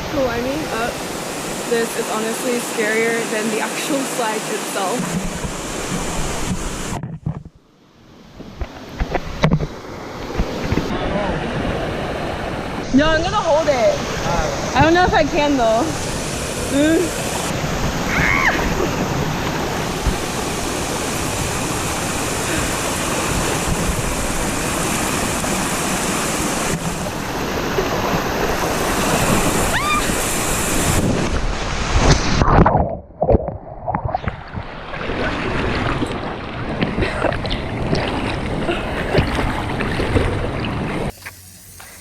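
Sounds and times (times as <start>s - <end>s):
rushing river water: 0.0s - 7.0s, 8.0s - 32.8s, 33.9s - 42.0s
water splashing: 0.0s - 7.4s, 8.4s - 42.0s.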